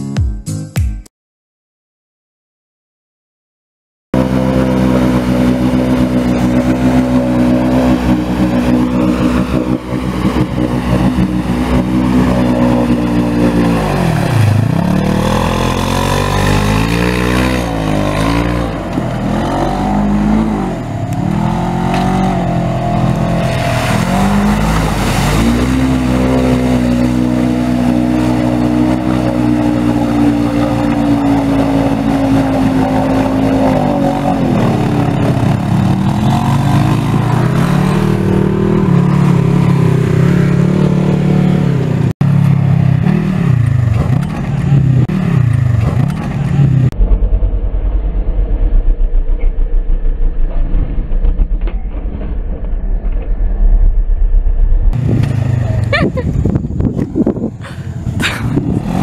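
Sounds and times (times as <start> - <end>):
driving through muddy water: 4.2 - 47.8, 54.9 - 59.0
utility vehicle engine revving: 4.2 - 52.7, 54.9 - 59.0.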